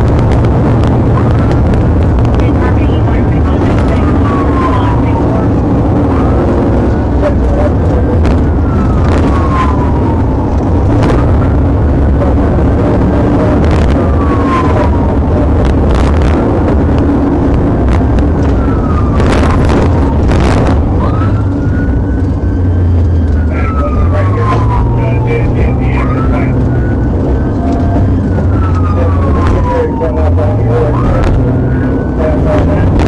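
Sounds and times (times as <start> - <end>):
car engine and road noise: 0.0 - 33.0
police siren wailing: 0.0 - 33.0.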